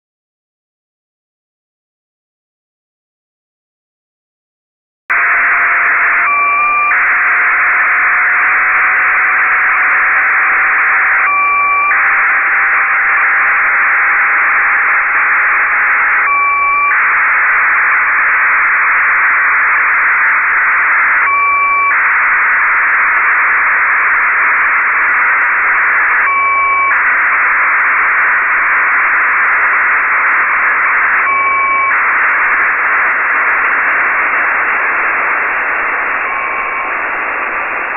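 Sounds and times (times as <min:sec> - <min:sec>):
receiver hiss: 0:05.2 - 0:37.9
short data bursts: 0:05.2 - 0:37.9.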